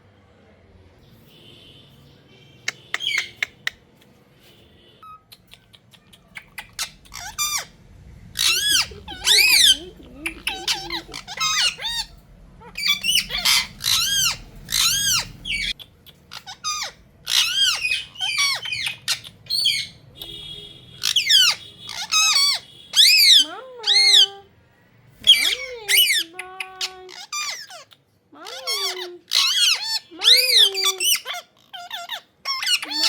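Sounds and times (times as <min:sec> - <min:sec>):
parakeet squawking: 0:02.7 - 0:03.8, 0:05.0 - 0:24.4, 0:25.2 - 0:33.0.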